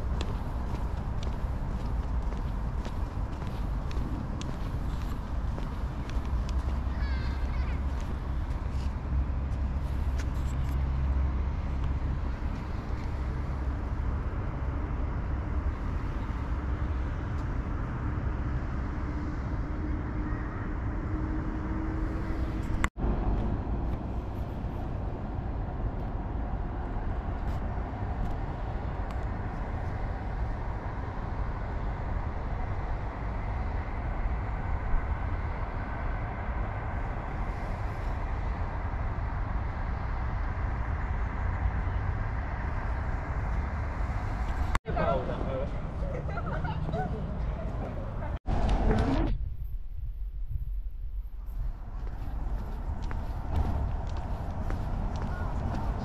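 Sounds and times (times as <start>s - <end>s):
distant road traffic: 0.0s - 49.4s, 51.3s - 56.0s.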